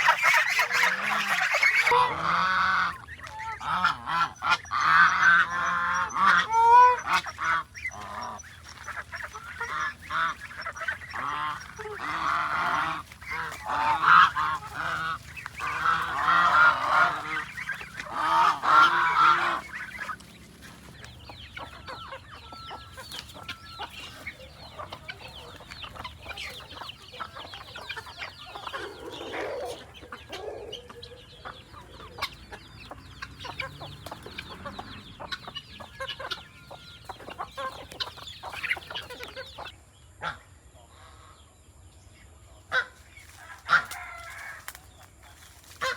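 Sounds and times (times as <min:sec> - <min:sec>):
geese honking: 0:00.0 - 0:41.3, 0:42.7 - 0:45.9
chickens clucking and peeping: 0:00.0 - 0:45.9.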